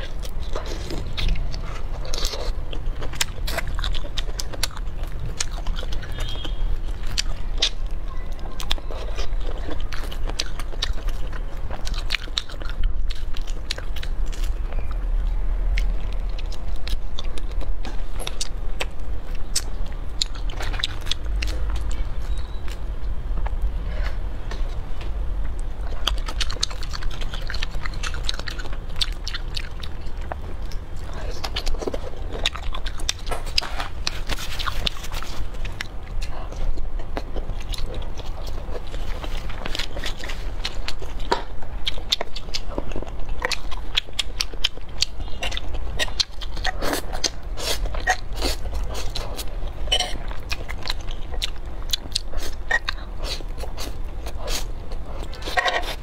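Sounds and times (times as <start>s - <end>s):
low steady rumble: 0.0s - 56.0s
person slurping and chewing noodles: 0.0s - 56.0s.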